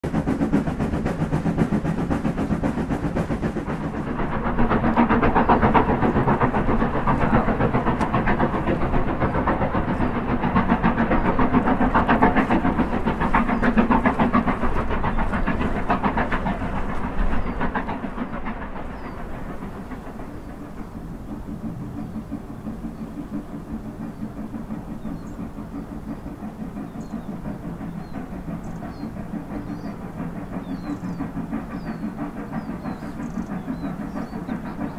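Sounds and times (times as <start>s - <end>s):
steam train running: 0.0s - 34.9s.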